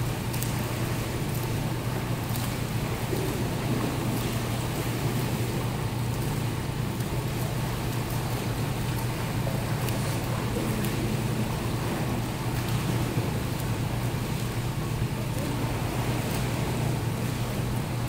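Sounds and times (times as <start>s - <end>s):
steady low hum: 0.0s - 18.0s
swimmers splashing: 0.0s - 18.0s.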